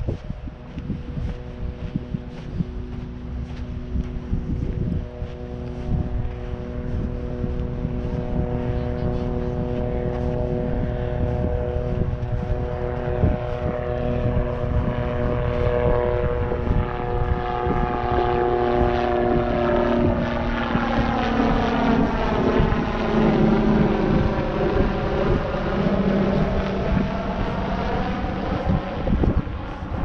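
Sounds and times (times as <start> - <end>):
propeller plane engine drone: 0.0 - 30.0
wind rumbling on microphone: 0.0 - 30.0.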